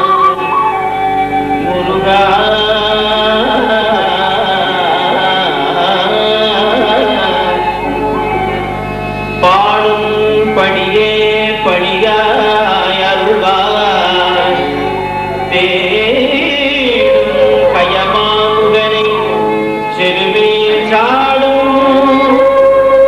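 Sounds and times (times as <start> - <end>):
harmonium chords: 0.0 - 23.0
person singing devotional song: 1.6 - 8.8, 9.4 - 23.0.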